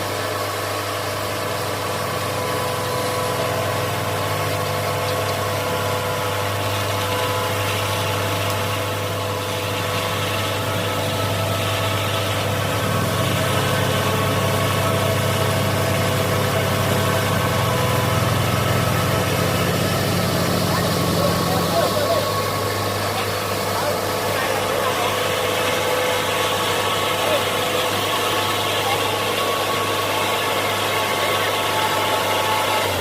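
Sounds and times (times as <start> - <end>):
large diesel engine running: 0.0 - 33.0.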